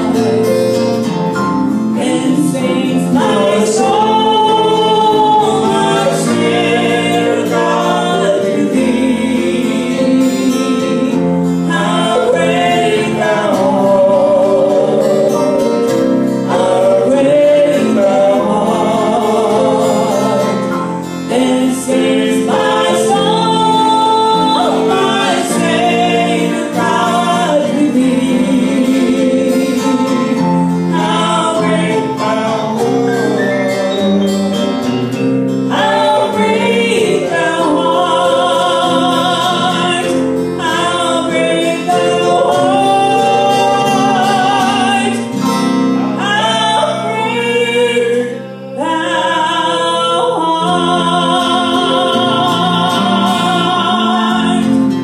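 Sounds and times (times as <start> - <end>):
strummed acoustic guitar: 0.0 - 55.0
woman singing a hymn: 2.0 - 15.7, 16.5 - 34.0, 35.7 - 45.4, 46.2 - 55.0.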